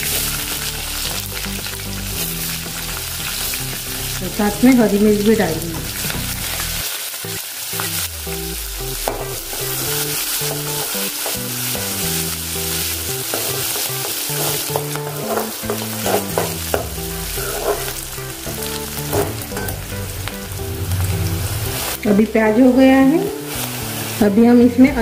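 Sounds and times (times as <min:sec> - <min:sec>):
onions sizzling in hot oil: 0:00.0 - 0:25.0.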